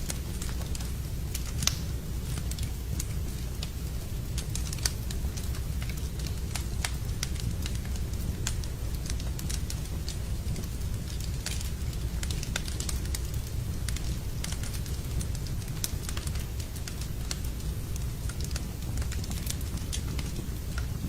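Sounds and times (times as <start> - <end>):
fire low rumble: 0.0 - 21.0
wood fire crackling and popping: 0.0 - 21.0.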